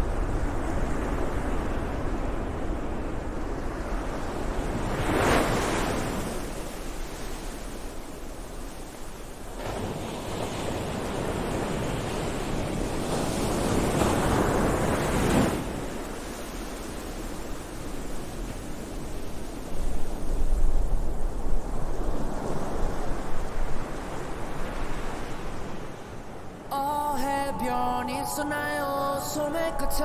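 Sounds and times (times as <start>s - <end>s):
ocean waves breaking: 0.0s - 30.0s.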